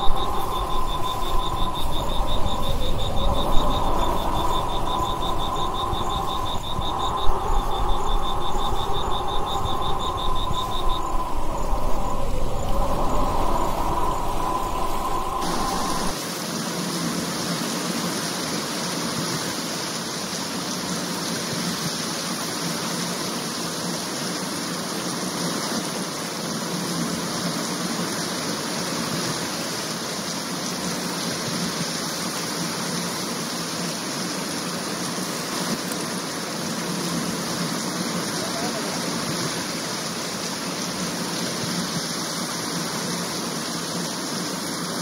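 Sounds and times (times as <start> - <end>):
water rushing: 0.0 - 45.0.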